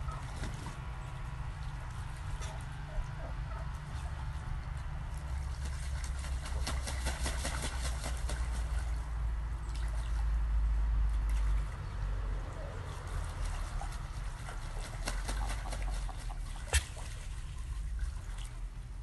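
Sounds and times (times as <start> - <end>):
water trickling and splashing: 3.6 - 19.0.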